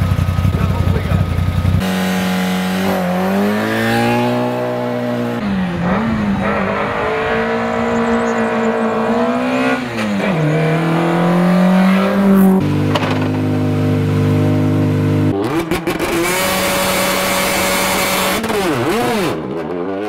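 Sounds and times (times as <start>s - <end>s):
rally car engine revving: 0.4s - 20.0s.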